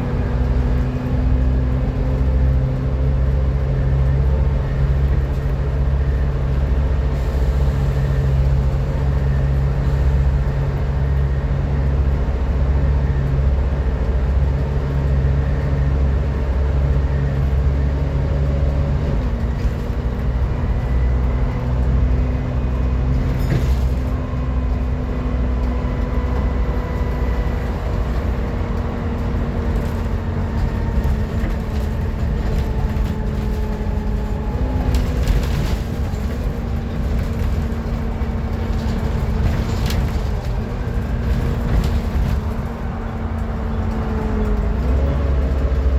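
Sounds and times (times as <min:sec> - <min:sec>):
bus engine drone: 0:00.0 - 0:45.9
high engine whine: 0:00.0 - 0:45.9.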